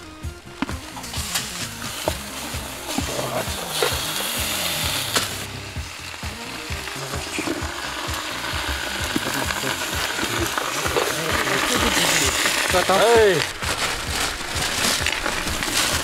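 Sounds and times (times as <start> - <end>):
hot stones sizzling: 0.0 - 16.0.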